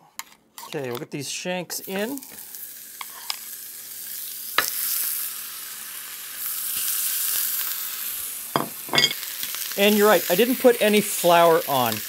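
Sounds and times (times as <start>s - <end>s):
meat sizzling in hot oil: 1.8s - 12.0s.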